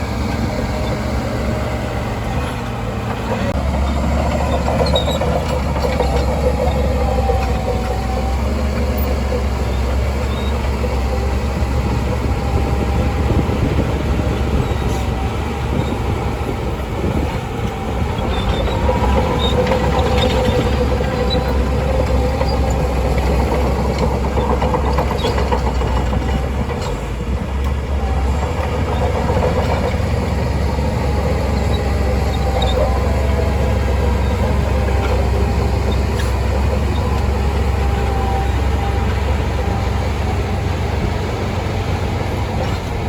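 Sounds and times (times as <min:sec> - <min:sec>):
bulldozer diesel rumble: 0:00.0 - 0:43.0
steel tracks creaking and clanking: 0:00.0 - 0:43.0.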